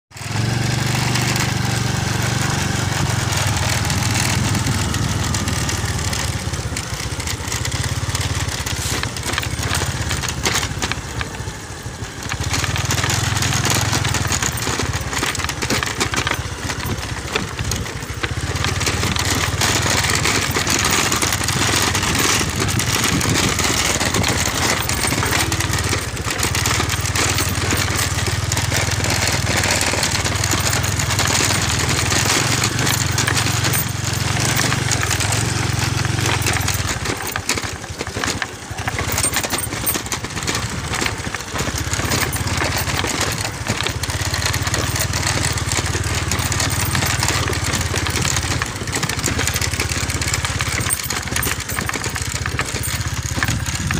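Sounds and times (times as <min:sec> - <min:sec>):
small motorcycle engine running: 0:00.1 - 0:53.9.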